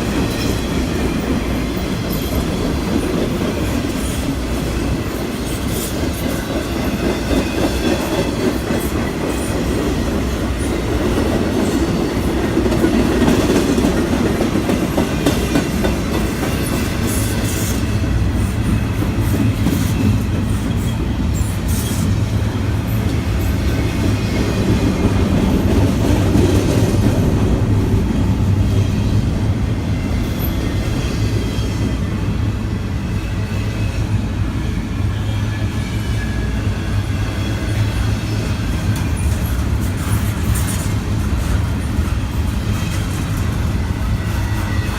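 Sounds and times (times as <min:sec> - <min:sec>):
train rail rumble: 0:00.0 - 0:44.9.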